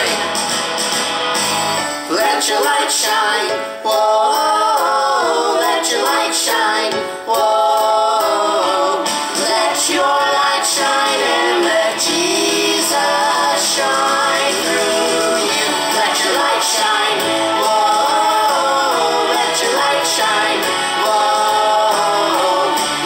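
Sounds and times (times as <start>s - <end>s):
song with singing voices: 0.0s - 23.0s.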